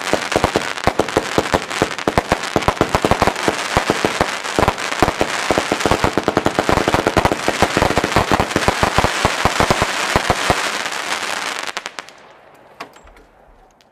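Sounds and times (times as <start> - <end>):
firework pops and crackles: 0.0 - 12.2.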